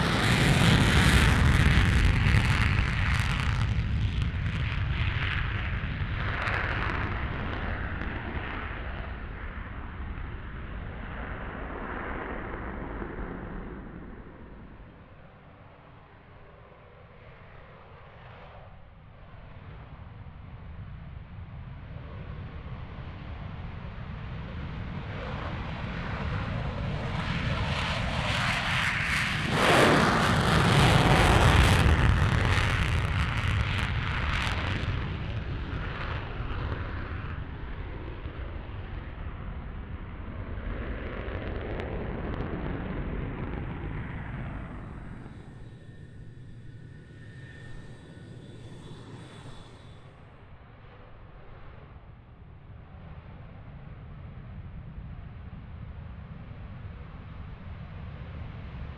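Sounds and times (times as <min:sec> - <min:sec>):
jet engine roar on takeoff: 0:00.0 - 0:58.9
jet with high whine: 0:00.0 - 0:58.9.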